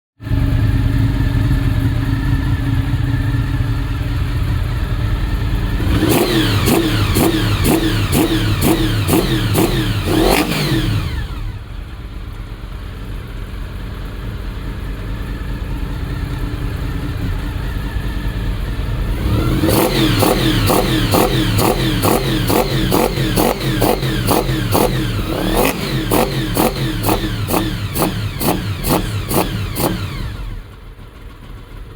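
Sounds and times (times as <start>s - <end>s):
motorcycle engine idling and revving: 0.2s - 31.9s.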